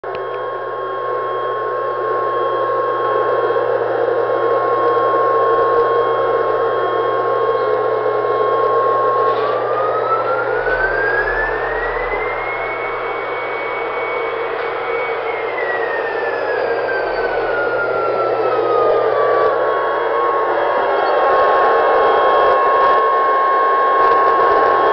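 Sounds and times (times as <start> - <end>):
toy jet engine roar and whine: 0.1 - 24.9.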